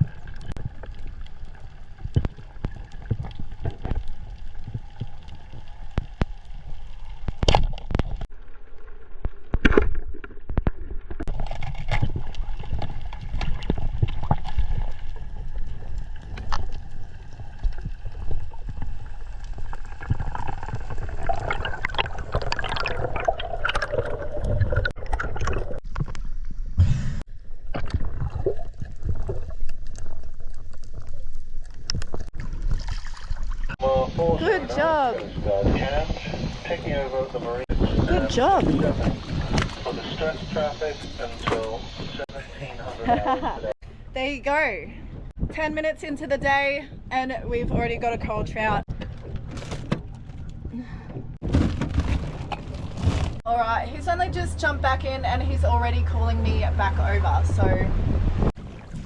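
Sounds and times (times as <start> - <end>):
water sloshing and gurgling: 0.0 - 43.0, 46.4 - 59.0.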